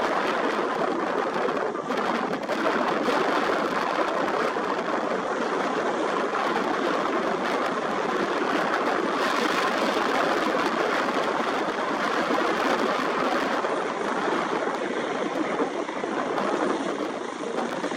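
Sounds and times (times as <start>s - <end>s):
helicopter rotors and engine: 0.0s - 17.9s.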